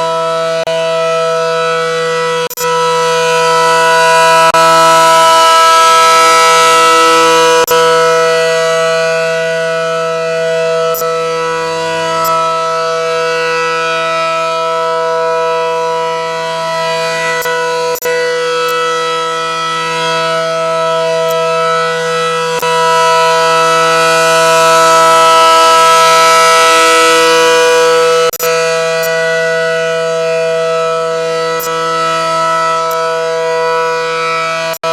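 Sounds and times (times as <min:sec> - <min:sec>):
warning siren steady tone: 0:00.0 - 0:34.9.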